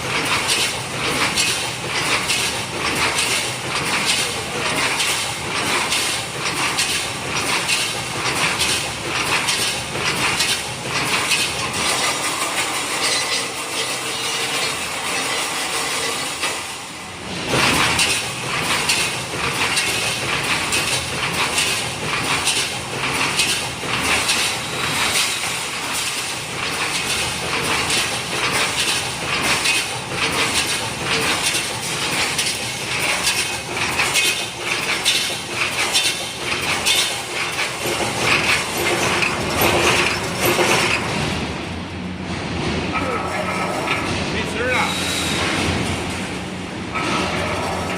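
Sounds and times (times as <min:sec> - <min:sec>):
welding machine rhythmic clatter: 0:00.0 - 0:47.9.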